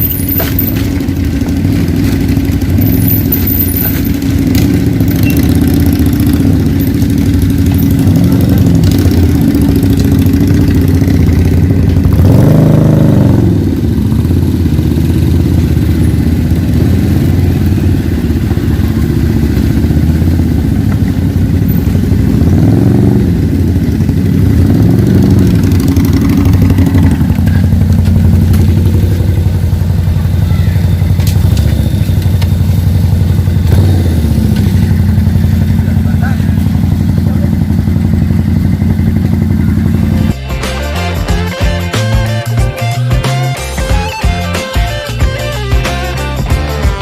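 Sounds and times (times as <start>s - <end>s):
scooter engine revving: 0.0s - 42.5s.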